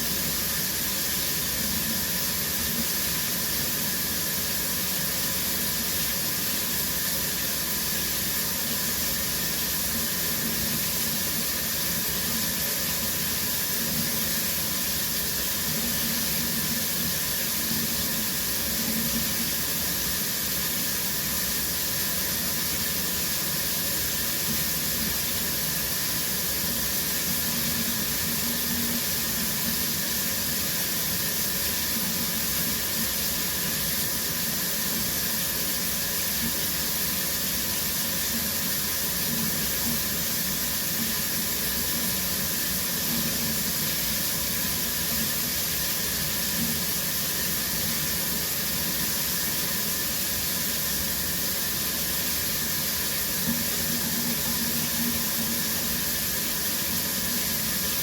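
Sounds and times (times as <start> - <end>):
shower running: 0.0 - 58.0.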